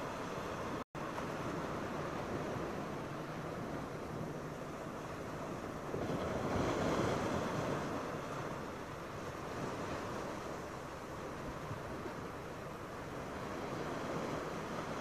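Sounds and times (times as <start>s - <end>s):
waves washing onto beach: 0.0s - 15.0s
wind on microphone: 0.0s - 15.0s.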